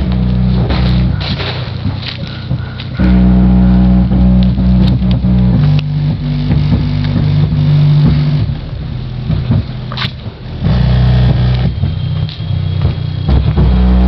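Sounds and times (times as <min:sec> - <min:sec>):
bass-heavy music from car speakers: 0:00.0 - 0:14.0.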